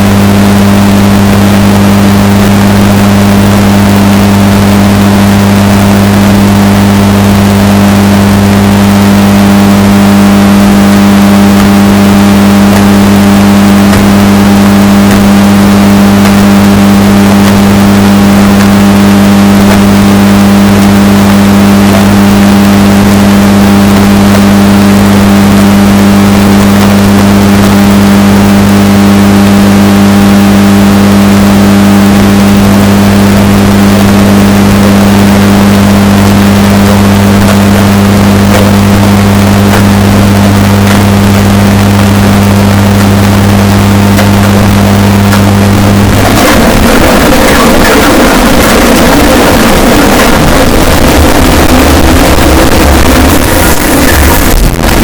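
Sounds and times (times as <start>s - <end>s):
washing machine motor hum: 0.0s - 30.7s, 31.5s - 55.0s.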